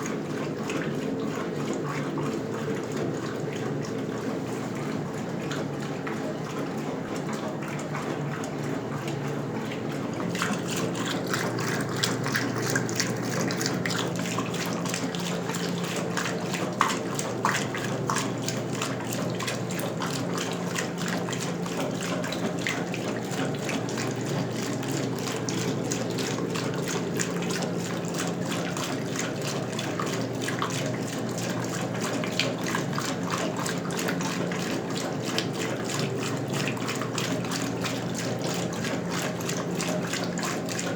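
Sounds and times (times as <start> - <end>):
washing machine hum: 0.0 - 40.9
water splashing in tub: 0.0 - 40.9.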